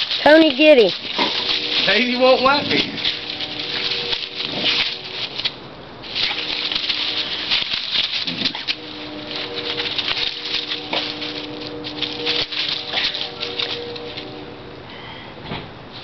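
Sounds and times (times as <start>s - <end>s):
dry leaves rustling under paws: 0.0s - 14.6s.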